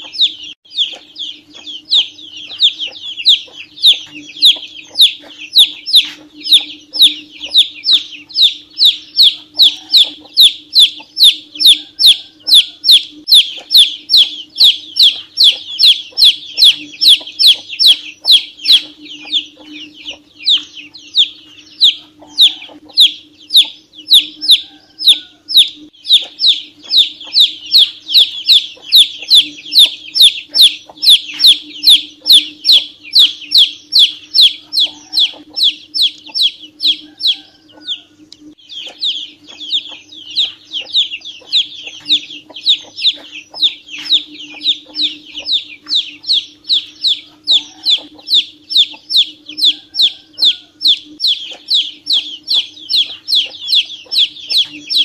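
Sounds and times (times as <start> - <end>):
chick peeping: 0.0 - 55.0.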